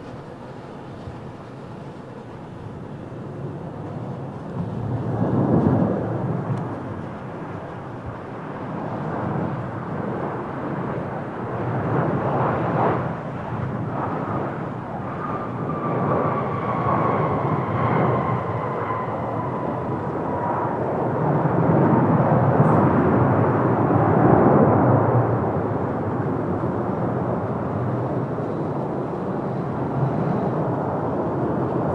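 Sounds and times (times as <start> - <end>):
jet engine rush and whine: 0.0 - 31.9
wind buffeting microphone: 0.0 - 31.9.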